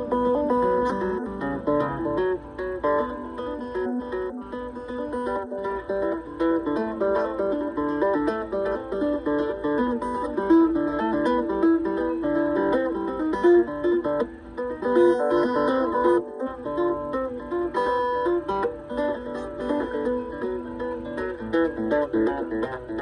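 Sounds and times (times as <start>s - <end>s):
acoustic guitar blues: 0.0s - 23.0s.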